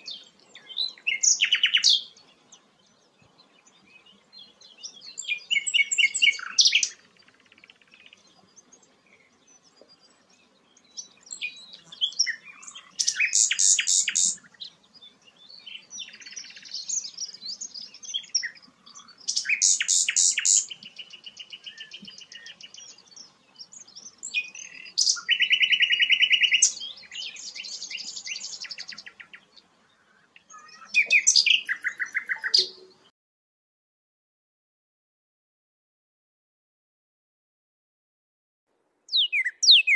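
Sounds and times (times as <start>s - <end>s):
songbird singing trilled phrases: 0.0s - 33.1s, 39.1s - 39.9s.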